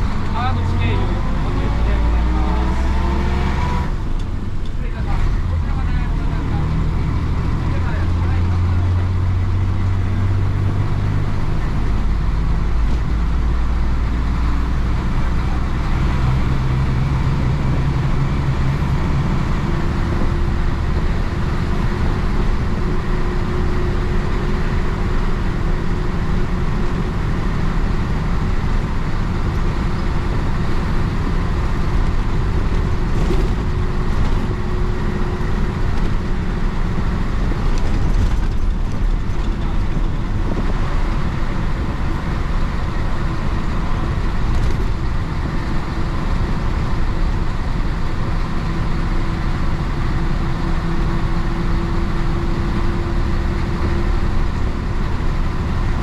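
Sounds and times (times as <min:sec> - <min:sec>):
diesel bus engine running: 0:00.0 - 0:56.0
road noise: 0:00.0 - 0:56.0.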